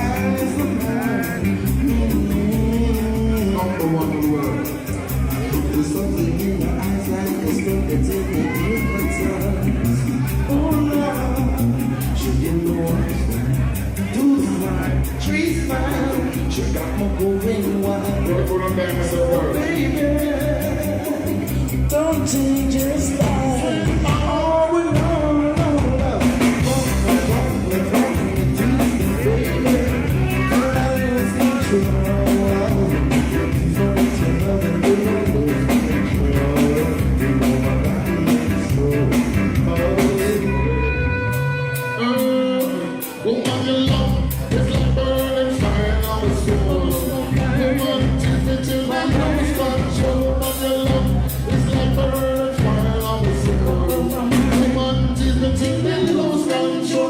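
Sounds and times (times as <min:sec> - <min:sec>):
person singing: 0:00.0 - 0:57.0
reggae band playing: 0:00.0 - 0:57.0.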